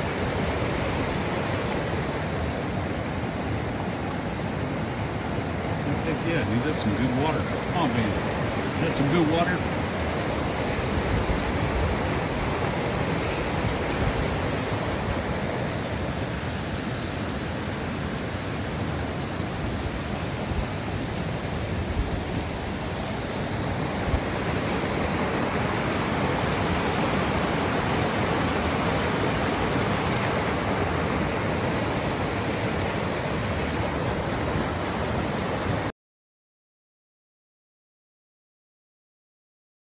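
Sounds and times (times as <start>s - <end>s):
water rushing over rocks: 0.0s - 35.9s.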